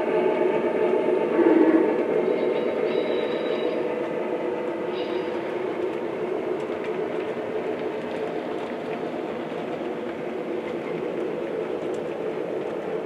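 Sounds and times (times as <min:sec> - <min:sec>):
faint clicks from rails: 0:00.3 - 0:13.0.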